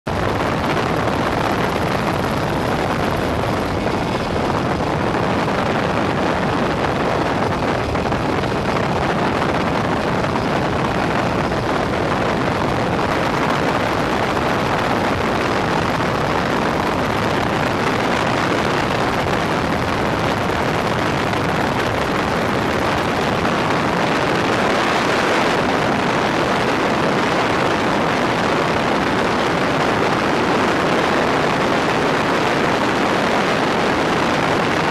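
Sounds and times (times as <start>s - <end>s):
helicopter engine and rotor noise: 0.1s - 34.9s.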